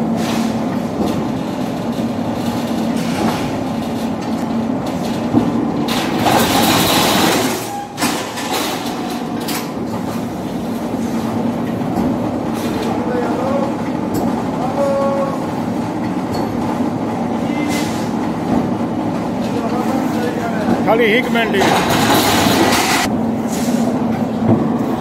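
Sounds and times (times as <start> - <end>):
metal shear humming and clattering: 0.0 - 25.0.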